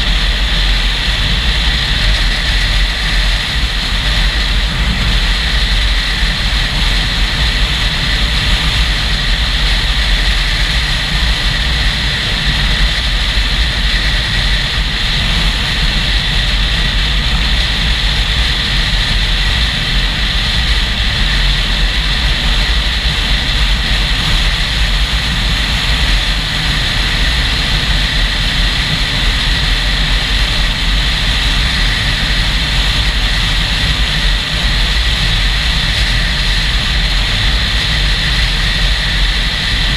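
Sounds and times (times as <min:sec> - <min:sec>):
motorcycle road noise: 0:00.0 - 0:39.9
wind buffeting microphone: 0:00.0 - 0:39.9.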